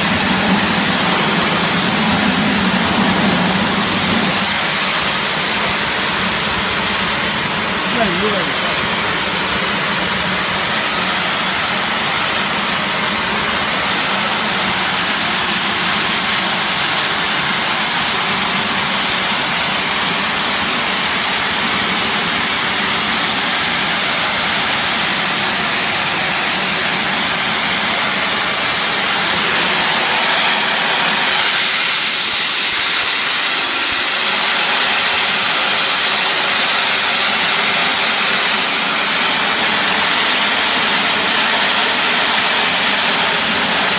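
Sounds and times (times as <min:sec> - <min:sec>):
electric motor and pump running: 0:00.0 - 0:43.9
pressure washer water jet hissing: 0:00.0 - 0:43.9.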